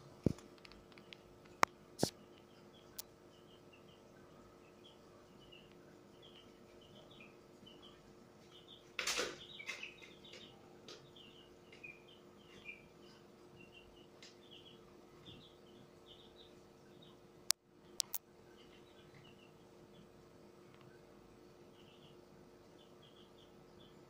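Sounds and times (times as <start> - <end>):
aquarium air pump hum: 0.0 - 24.0.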